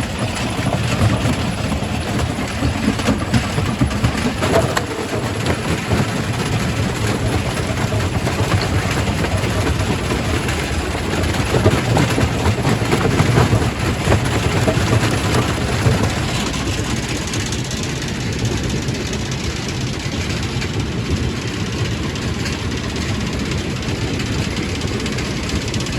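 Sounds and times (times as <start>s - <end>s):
rock crusher rumbling: 0.0s - 25.9s.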